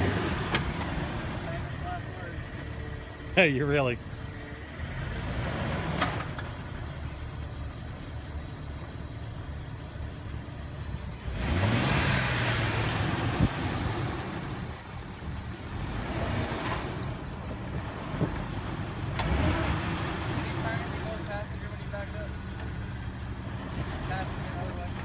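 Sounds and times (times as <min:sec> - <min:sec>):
engine running and revving: 0:00.0 - 0:25.0.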